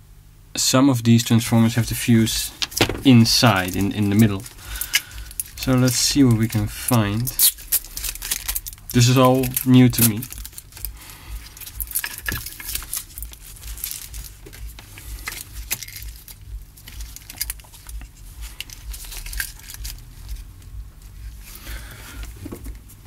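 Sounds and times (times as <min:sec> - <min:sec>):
crinkling and tearing: 0:01.9 - 0:23.0.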